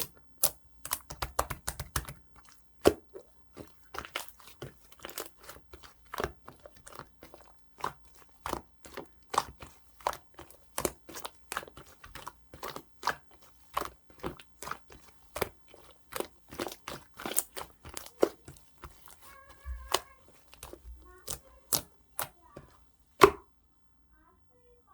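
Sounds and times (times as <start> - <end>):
slime squished by hand: 0.0 - 23.6.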